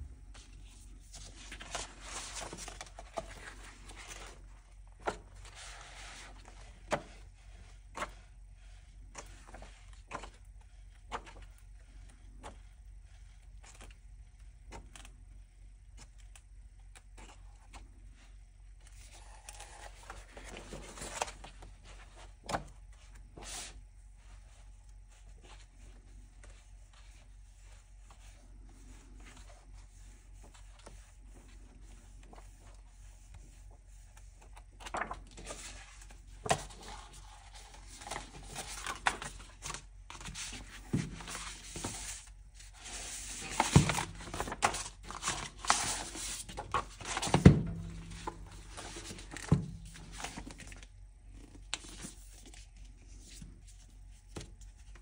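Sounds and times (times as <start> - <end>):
book pages turning: 0.3 - 18.2, 18.8 - 55.0.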